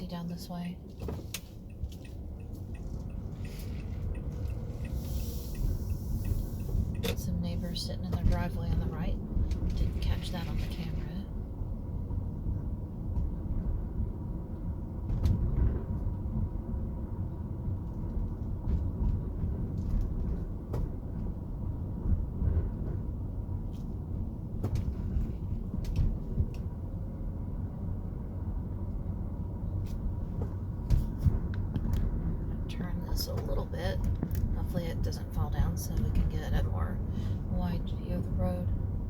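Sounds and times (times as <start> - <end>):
road and engine rumble in car: 0.0 - 39.0.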